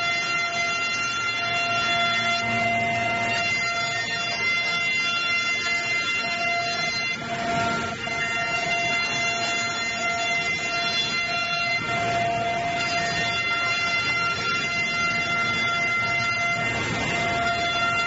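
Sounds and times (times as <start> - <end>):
wood planing machine whining: 0.0 - 18.0.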